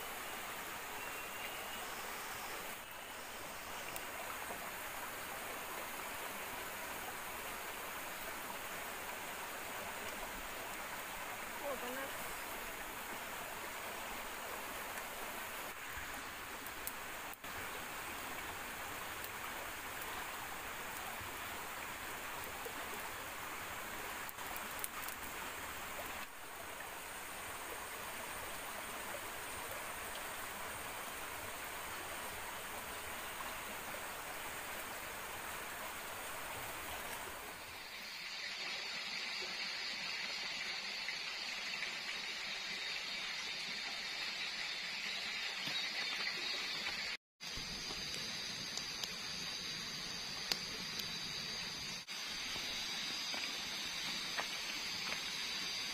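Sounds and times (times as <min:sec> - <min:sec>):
flowing water rushing: 0:00.0 - 0:55.9.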